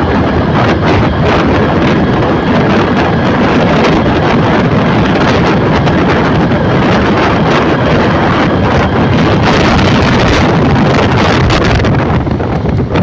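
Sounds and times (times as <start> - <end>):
wind blowing against microphone: 0.0 - 13.0.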